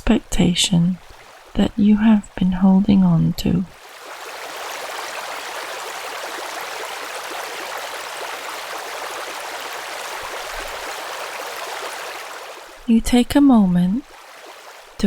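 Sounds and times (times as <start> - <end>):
stream running water: 0.0 - 15.0.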